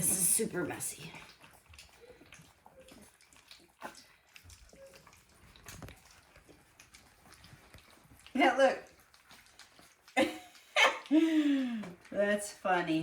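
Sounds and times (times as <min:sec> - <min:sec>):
puppies lapping food: 0:00.0 - 0:13.0.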